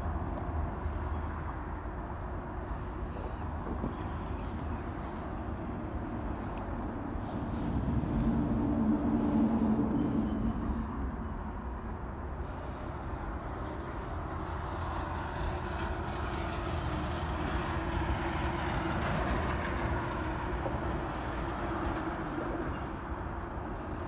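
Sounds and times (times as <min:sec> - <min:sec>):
low engine rumble with whine: 0:00.0 - 0:24.0.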